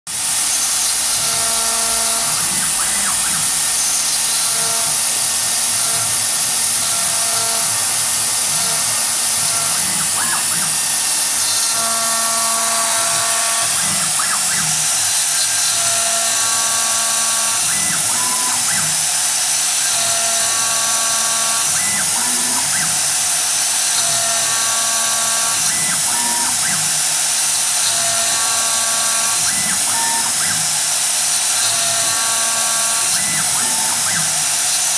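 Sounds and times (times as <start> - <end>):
axis motor tones: 0.1 - 34.9
router spindle whining: 0.1 - 34.9.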